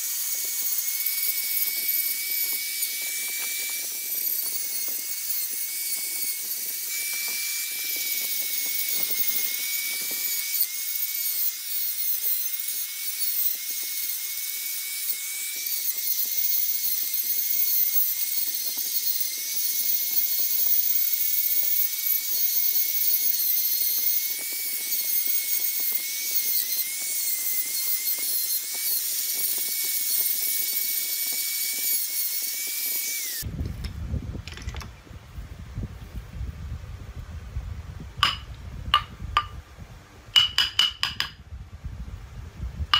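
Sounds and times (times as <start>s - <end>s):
rotary tool grinding wood: 0.0s - 33.9s, 38.2s - 39.5s.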